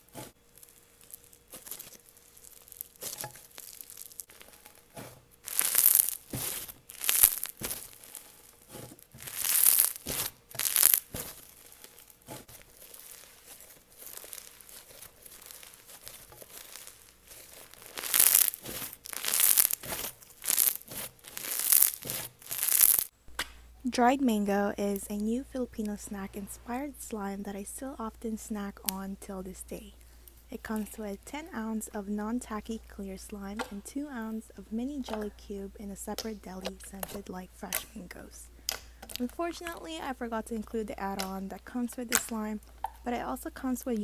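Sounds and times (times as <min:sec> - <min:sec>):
slime crunching and crackling: 0:00.0 - 0:23.1, 0:25.8 - 0:44.0.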